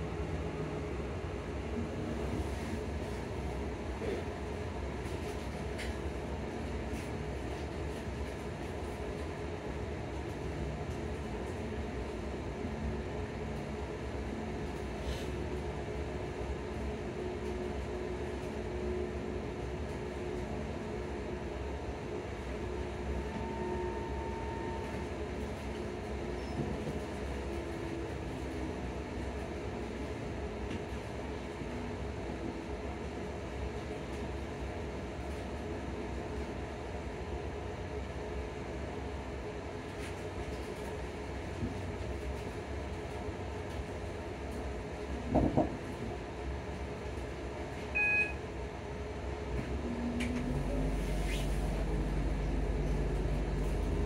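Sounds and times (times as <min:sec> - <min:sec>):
train wheels rumbling on rails: 0:00.0 - 0:48.0, 0:49.0 - 0:54.0.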